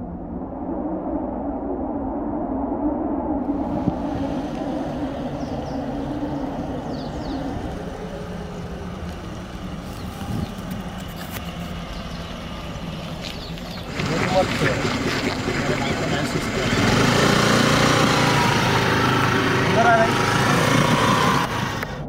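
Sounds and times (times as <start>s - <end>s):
motor scooter engine: 3.5s - 22.0s.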